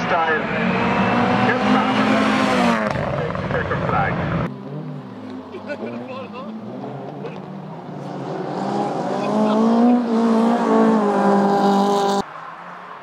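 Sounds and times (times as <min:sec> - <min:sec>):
car engine at high revs: 0:00.0 - 0:12.3.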